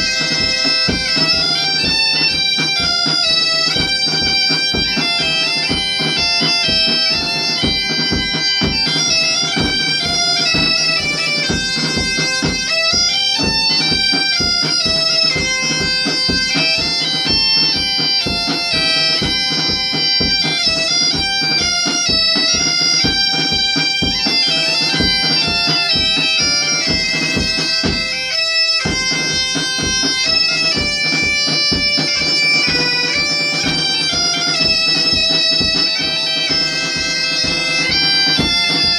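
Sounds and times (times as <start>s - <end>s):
bagpipe playing folk tune: 0.0s - 38.9s
drum keeping even beat: 0.0s - 38.9s.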